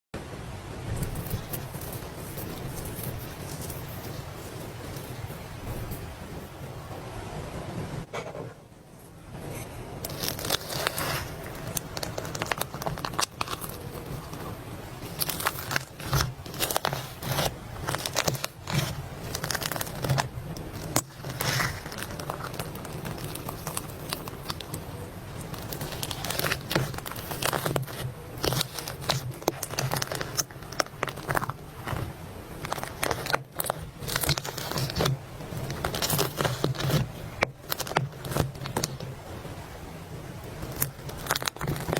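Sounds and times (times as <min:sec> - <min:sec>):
low steady hum: 0:00.2 - 0:41.9
slime squishing and crackling: 0:01.0 - 0:07.0, 0:10.0 - 0:41.9.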